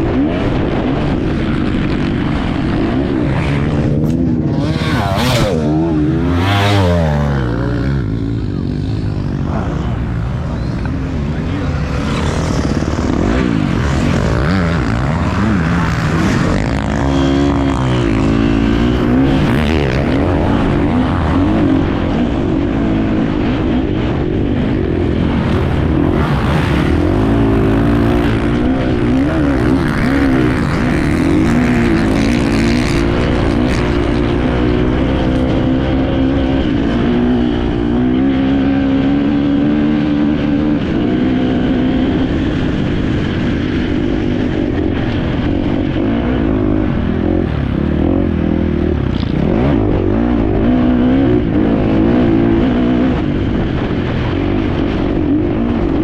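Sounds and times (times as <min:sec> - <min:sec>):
motorcycle engine revving: 0:00.0 - 0:56.0
wind and riding noise: 0:00.0 - 0:56.0.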